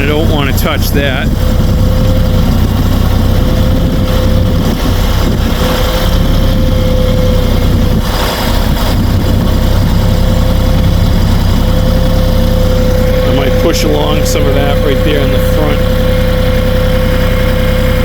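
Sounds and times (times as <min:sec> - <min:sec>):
high whine: 0:00.0 - 0:18.0
tractor diesel engine running: 0:00.0 - 0:18.0.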